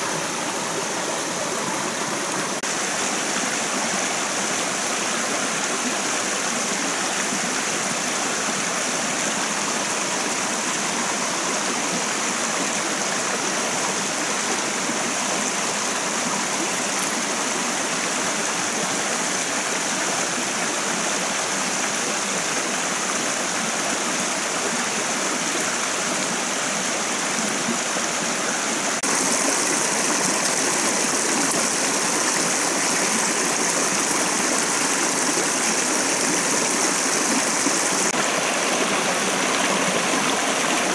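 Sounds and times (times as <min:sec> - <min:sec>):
stream running over cascades: 0:00.0 - 0:40.9.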